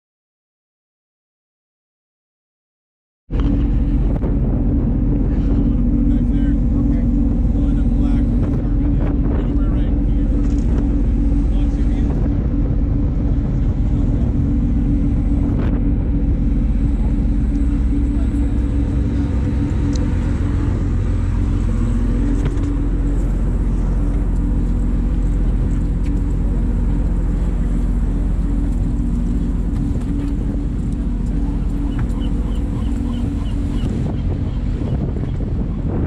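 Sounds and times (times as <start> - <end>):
boat engine droning: 3.3 - 36.0.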